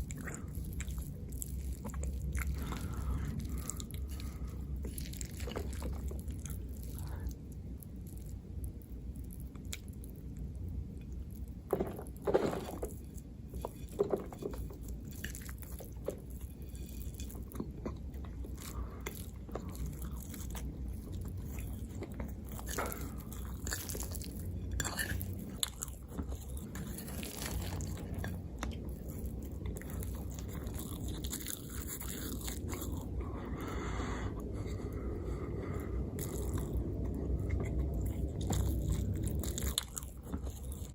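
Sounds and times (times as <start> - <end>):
person chewing and biting food: 0.0 - 40.9.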